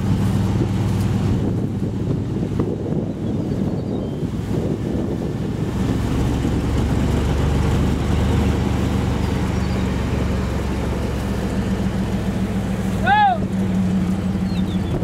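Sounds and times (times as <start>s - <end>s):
rough rushing noise: 0.0s - 15.0s
truck engine running: 0.0s - 15.0s.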